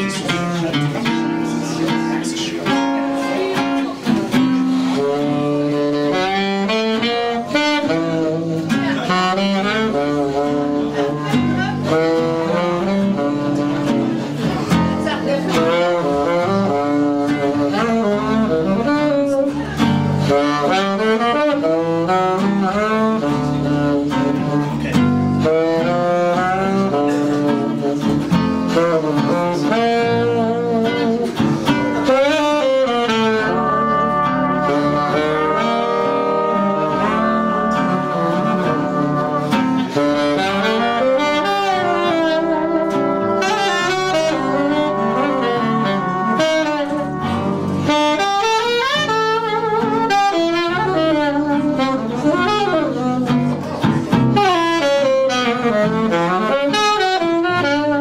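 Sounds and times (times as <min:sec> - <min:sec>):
reed instrument: 0:00.0 - 0:58.0
trumpet: 0:00.0 - 0:58.0
walking string bass: 0:00.0 - 0:58.0
trombone: 0:02.4 - 0:14.7, 0:15.5 - 0:58.0.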